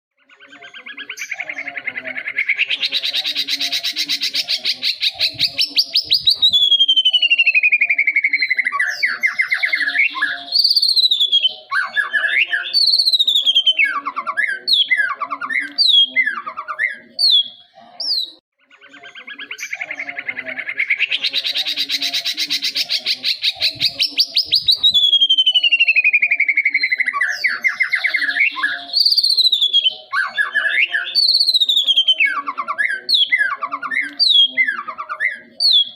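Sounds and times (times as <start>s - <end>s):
songbird singing: 0.1s - 35.9s.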